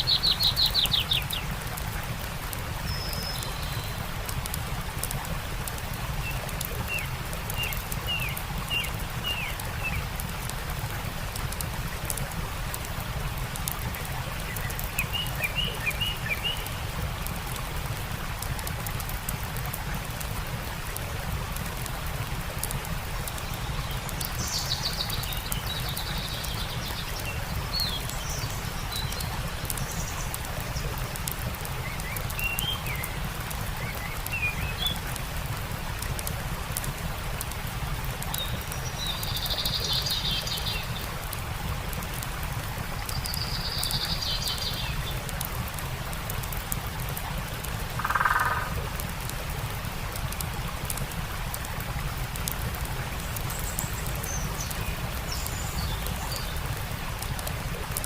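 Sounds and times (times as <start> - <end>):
songbirds chirping: 0.0 - 18.5, 22.6 - 47.2, 52.3 - 57.7
campfire crackling: 0.0 - 58.0
stream rushing: 0.0 - 58.0.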